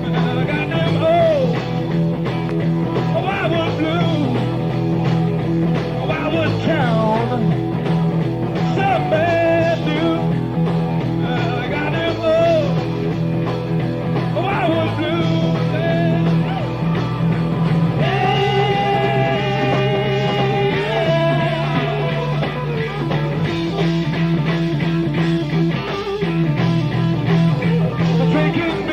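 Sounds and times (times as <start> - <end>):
live blues-rock band: 0.0 - 28.9.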